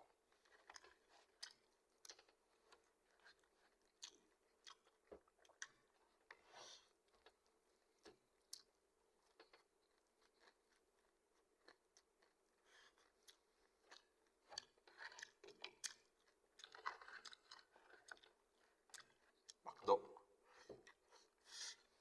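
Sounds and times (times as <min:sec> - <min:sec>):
person chewing crunchy food: 0:00.4 - 0:19.7.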